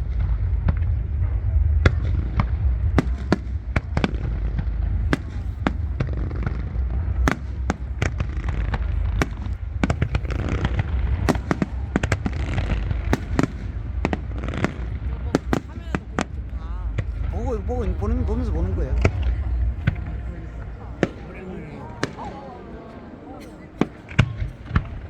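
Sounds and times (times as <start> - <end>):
low rumble: 0.0 - 21.4
firework bangs: 0.0 - 22.7, 23.8 - 25.0
firework crackling: 2.2 - 22.4.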